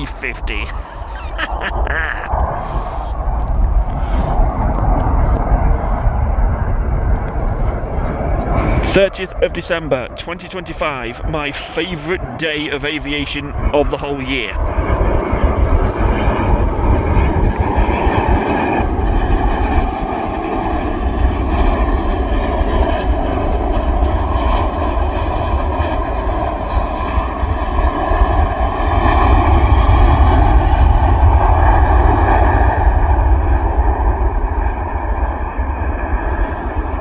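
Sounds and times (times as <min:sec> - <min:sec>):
jet airliner engines: 0:00.0 - 0:37.0.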